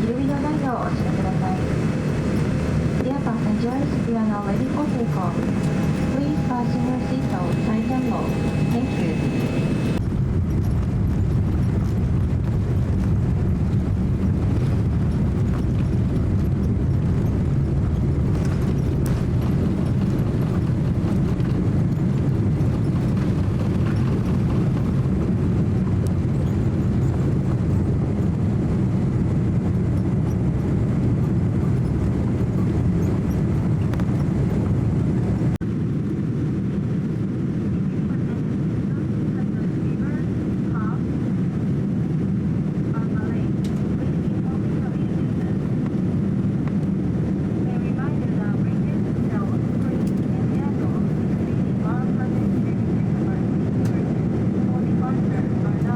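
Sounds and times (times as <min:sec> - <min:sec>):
airliner cabin rumble: 0:00.0 - 0:55.9.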